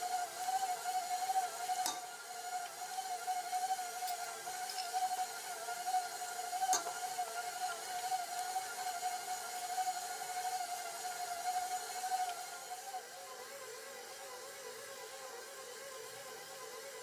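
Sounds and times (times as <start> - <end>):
stand mixer motor whining: 0.0 - 17.0.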